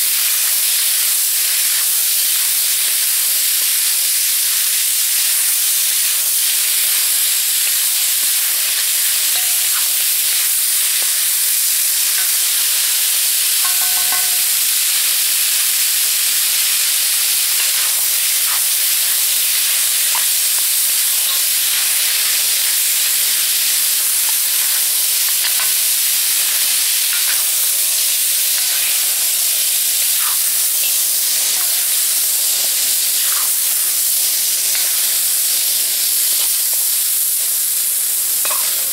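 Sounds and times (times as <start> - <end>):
beef sizzling in a wok: 0.0 - 38.9.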